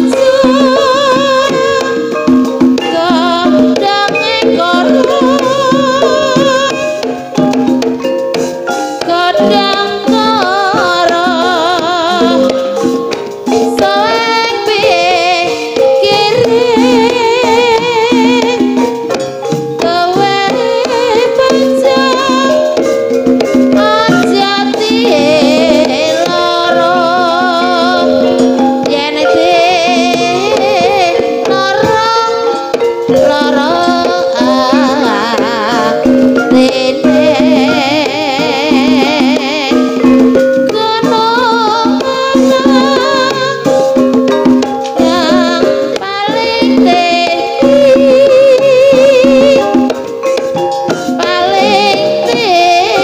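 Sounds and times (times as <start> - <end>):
drums and rattling percussion: 0.0 - 53.0
vibrato melody: 0.0 - 53.0.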